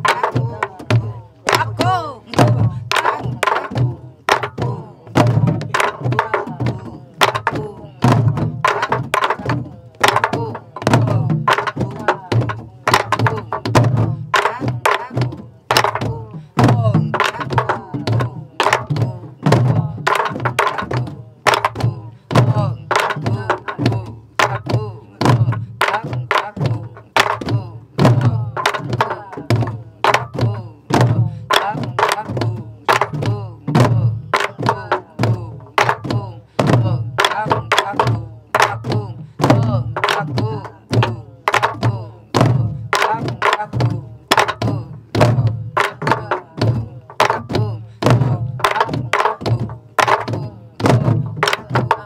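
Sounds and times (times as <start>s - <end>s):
barrel drums beaten in rhythm: 0.0s - 52.0s.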